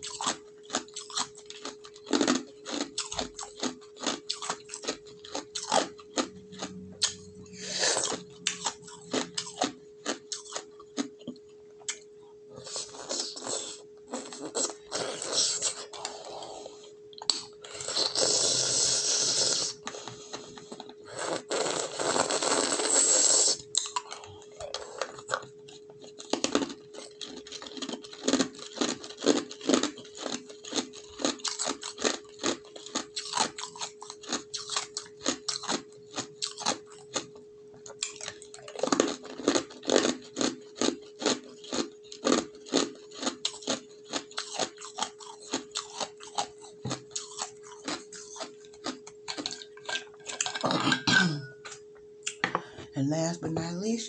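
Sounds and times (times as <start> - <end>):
ice crunching and chewing: 0.0 - 52.4.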